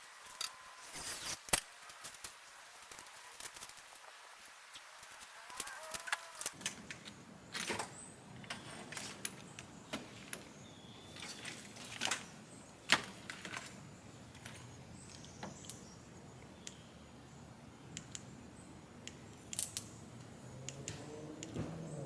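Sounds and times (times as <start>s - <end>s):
low steady background noise: 0.0s - 22.0s.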